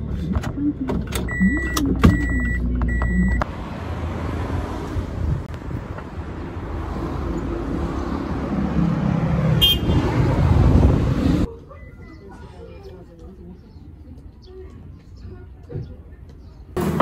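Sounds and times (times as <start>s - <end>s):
passing traffic road noise: 0.0s - 17.0s.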